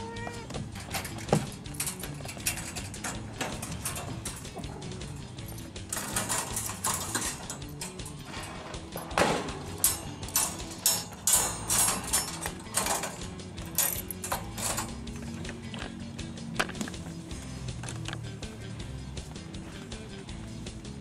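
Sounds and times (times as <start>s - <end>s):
wire cage rattling: 0.0s - 21.0s
chain clip clicking: 0.4s - 19.4s.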